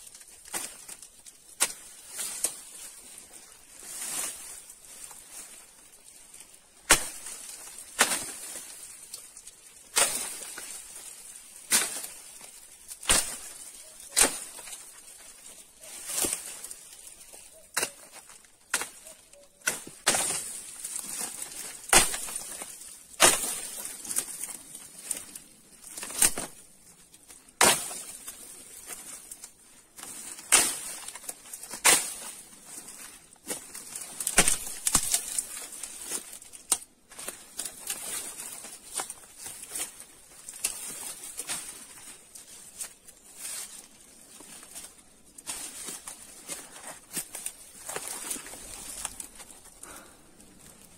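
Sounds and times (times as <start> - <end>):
dry twigs rustling and snapping: 0.0 - 50.9.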